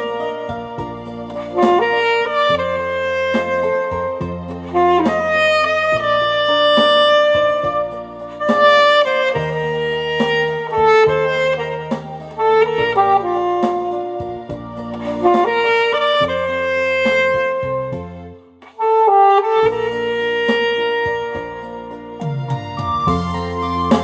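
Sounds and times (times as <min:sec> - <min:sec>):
alto saxophone melody: 0:00.0 - 0:24.0
steady bass line: 0:00.0 - 0:24.0.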